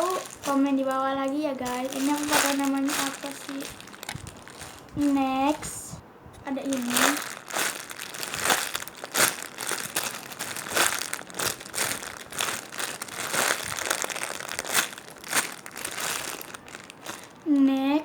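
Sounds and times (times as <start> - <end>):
squishy toy crinkling: 0.0 - 5.8, 6.5 - 17.7.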